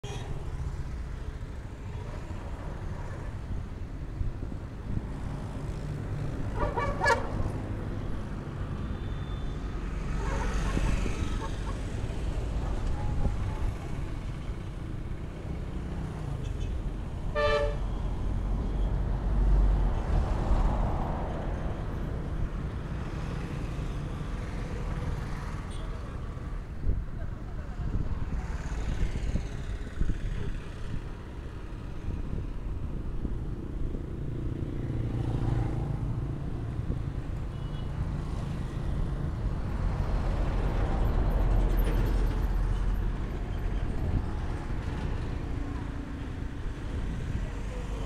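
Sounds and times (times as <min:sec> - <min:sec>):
passing vehicles: 0:00.0 - 0:48.0.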